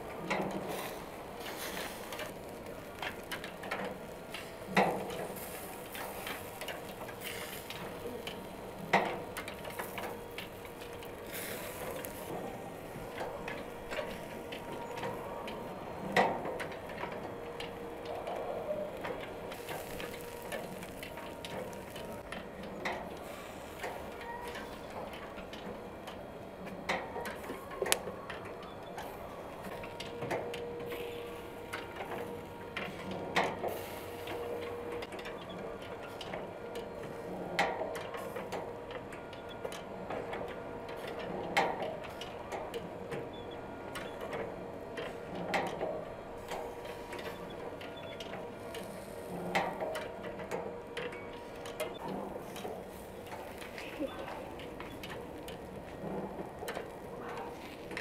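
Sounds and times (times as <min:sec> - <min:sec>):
grill gears ticking whir: 0:00.1 - 0:36.8, 0:37.6 - 0:58.0.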